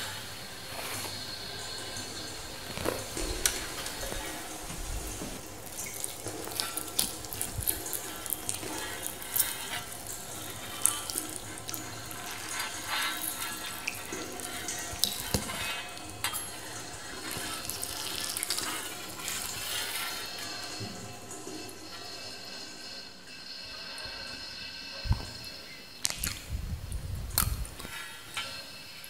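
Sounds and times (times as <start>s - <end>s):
water splashing in a fish tank: 0.0s - 29.0s.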